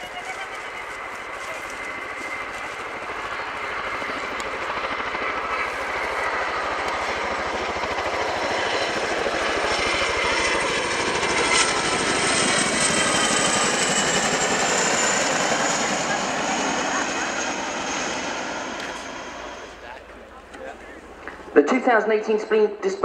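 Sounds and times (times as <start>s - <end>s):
high engine whine: 0.0s - 21.6s
helicopter rotors beating: 0.0s - 23.0s.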